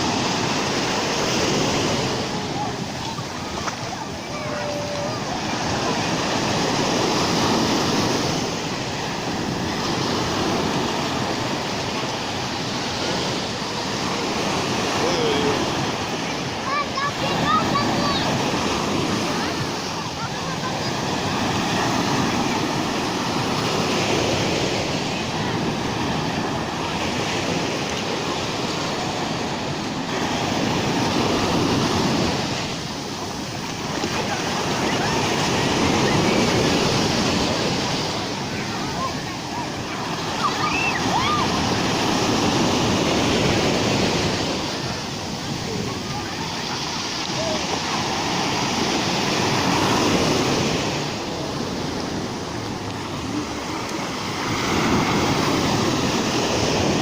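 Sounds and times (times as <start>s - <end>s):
surf washing onto shore: 0.0s - 57.0s
waves breaking: 0.0s - 57.0s.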